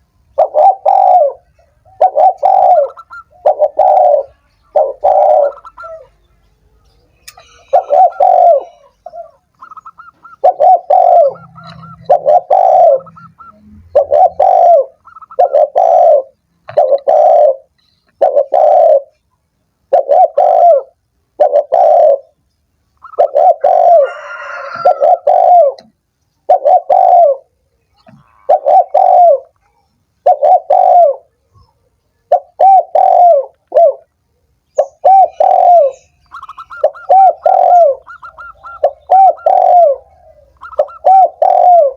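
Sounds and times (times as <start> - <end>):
dove cooing: 0.0 - 6.2, 7.2 - 19.2, 19.9 - 22.4, 23.0 - 41.9.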